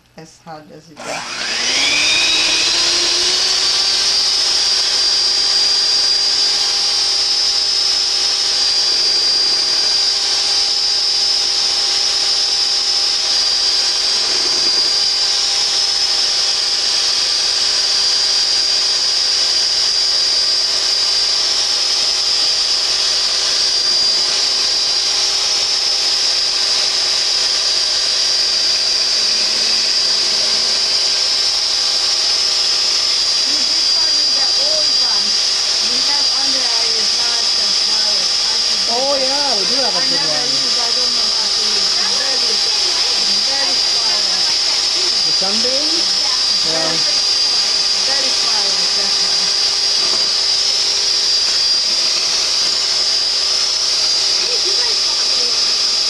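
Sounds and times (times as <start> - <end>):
electric mixer whining: 1.0 - 56.0.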